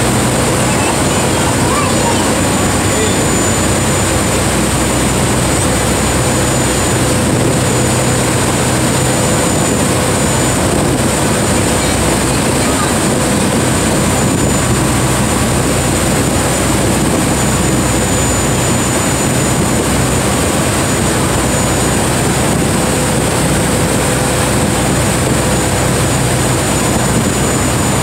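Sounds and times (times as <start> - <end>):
boat engine running: 0.0 - 28.0
waterfall roaring: 0.0 - 28.0.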